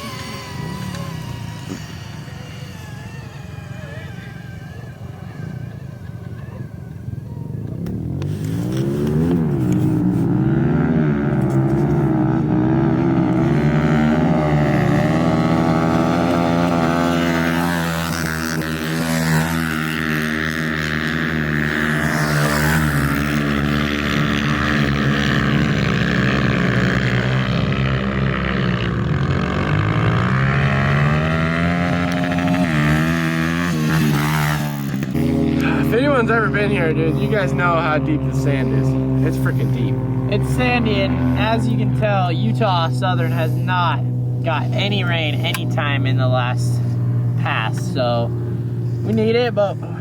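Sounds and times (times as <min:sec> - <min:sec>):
pit bike engines revving: 0:00.0 - 0:50.0.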